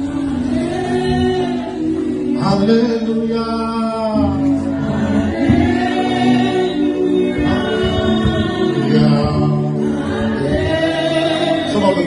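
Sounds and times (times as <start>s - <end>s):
choir singing gospel music: 0.0s - 12.0s.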